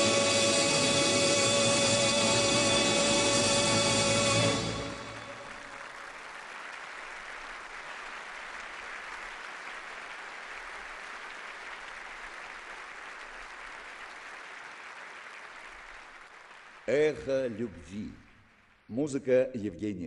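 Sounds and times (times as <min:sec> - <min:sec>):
large audience applauding: 0:00.0 - 0:19.0.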